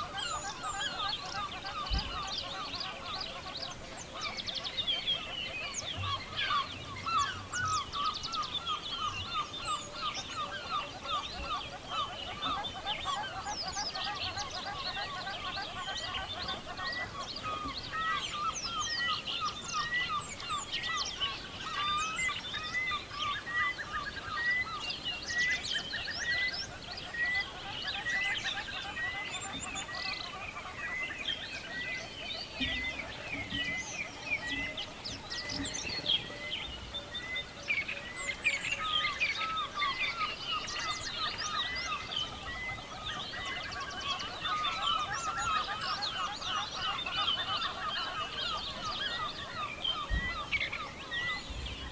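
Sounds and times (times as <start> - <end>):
dense chorus of birds calling: 0.0 - 51.9.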